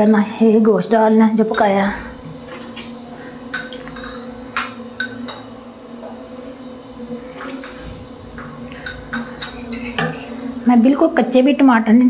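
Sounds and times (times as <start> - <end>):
low hum: 1.2 - 12.0.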